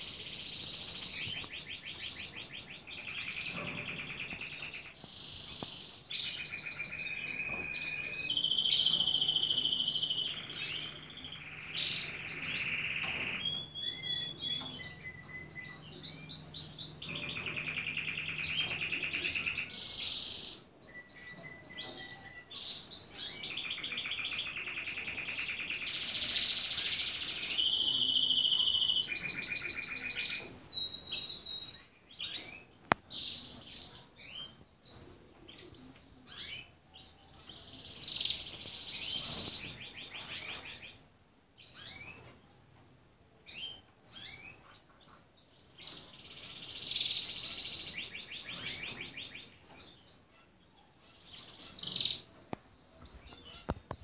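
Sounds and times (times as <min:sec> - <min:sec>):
canary singing trills: 0:00.0 - 0:42.7, 0:43.4 - 0:54.0.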